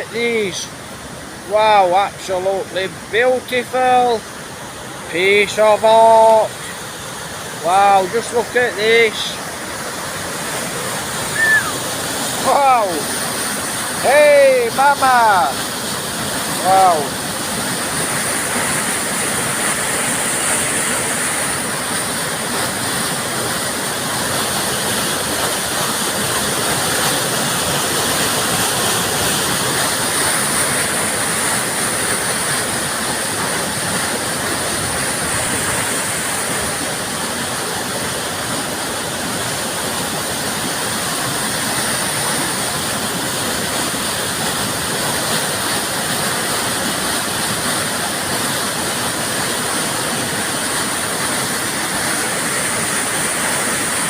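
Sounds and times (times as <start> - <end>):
river water rushing through dam: 0.0 - 54.0.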